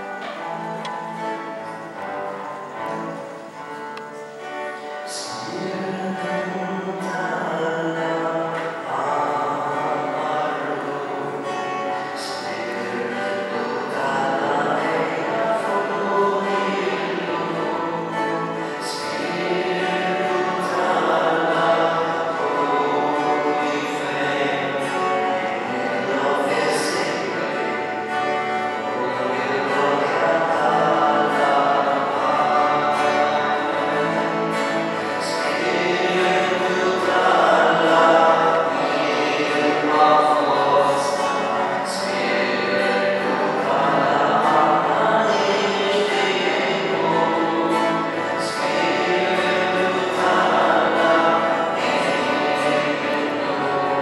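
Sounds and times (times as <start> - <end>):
choir singing a hymn: 4.8 - 54.0.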